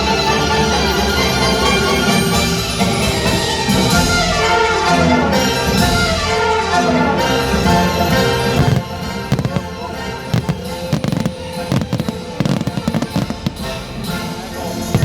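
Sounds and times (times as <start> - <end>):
fireworks bangs and crackles: 0.0 - 4.8, 7.2 - 15.0
orchestral show music: 0.0 - 15.0.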